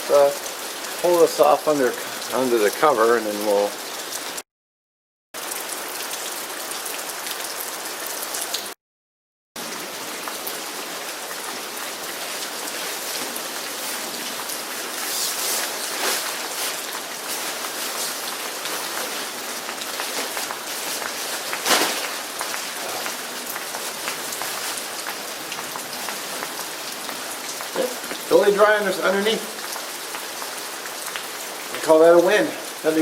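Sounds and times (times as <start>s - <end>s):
rain falling: 0.0s - 4.4s, 5.4s - 8.8s, 9.6s - 33.0s.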